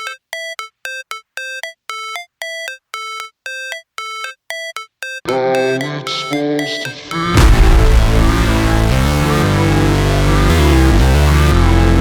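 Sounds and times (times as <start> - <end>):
sparse electronic melody: 0.0 - 12.0.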